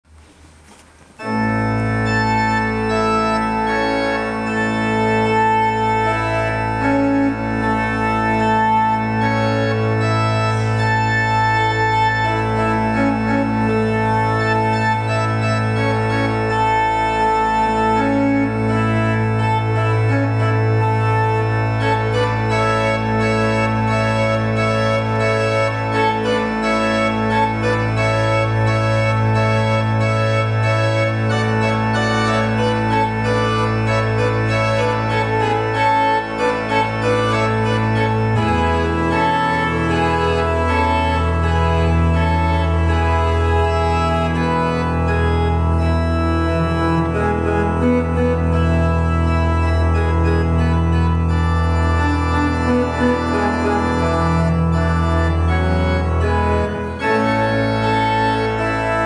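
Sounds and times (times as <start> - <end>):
organ chords: 0.1 - 59.0
low organ pedal bass note: 1.2 - 59.0.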